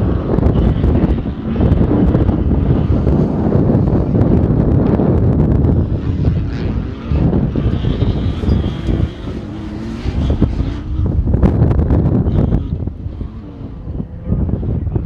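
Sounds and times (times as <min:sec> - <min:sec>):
race truck engines racing past: 0:00.0 - 0:15.0
wind buffeting microphone: 0:00.0 - 0:15.0.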